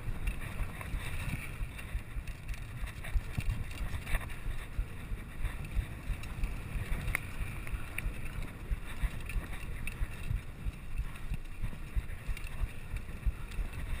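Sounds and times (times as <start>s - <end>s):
bike tyres rumbling on dirt: 0.0s - 14.0s
wind on the microphone: 0.0s - 14.0s.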